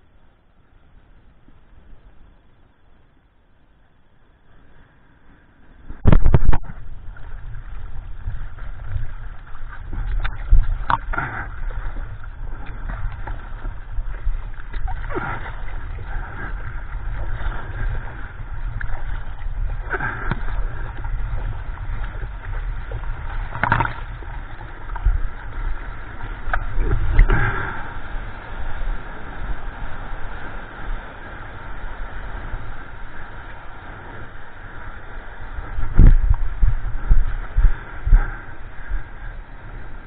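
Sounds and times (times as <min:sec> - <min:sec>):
deep rumble: 0:05.8 - 0:40.0
water splashing against surfboard: 0:05.9 - 0:40.0.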